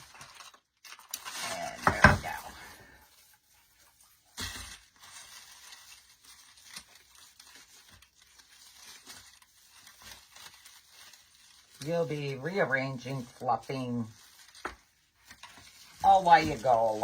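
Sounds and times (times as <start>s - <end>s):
rustling and crinkling of foliage: 0.0s - 17.0s.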